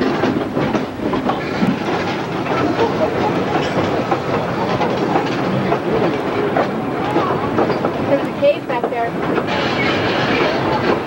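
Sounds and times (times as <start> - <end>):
train running gear rumble: 0.0 - 11.0
wheels clacking on rails: 0.0 - 11.0.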